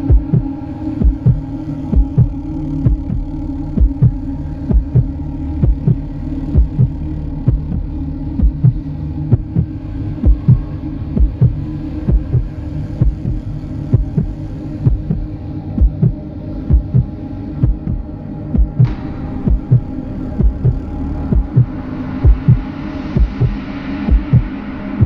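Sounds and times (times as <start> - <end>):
heartbeat thumps: 0.0 - 3.2, 3.8 - 6.0, 6.6 - 6.9, 7.5 - 10.6, 11.2 - 24.5
constant low hum: 0.0 - 25.0.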